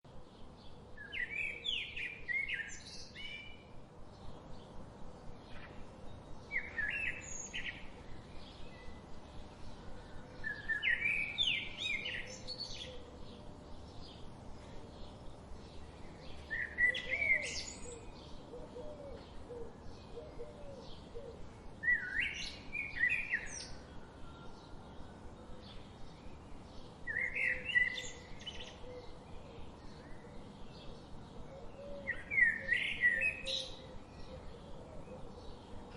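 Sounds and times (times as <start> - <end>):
bird warbling song: 0.1 - 35.9
soft background hiss: 0.1 - 35.9
faint bird chirps: 4.6 - 35.9.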